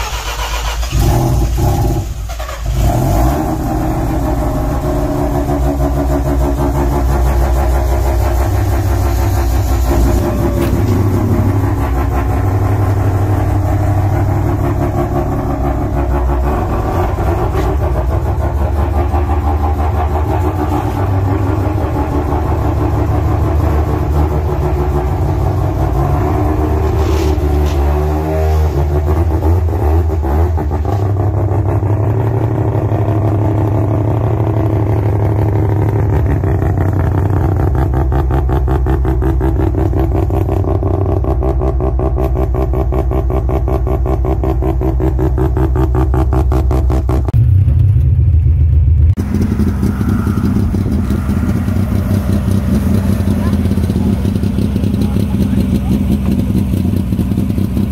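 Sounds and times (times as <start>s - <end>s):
two-stroke engine revving: 0.0s - 47.4s, 49.2s - 57.9s.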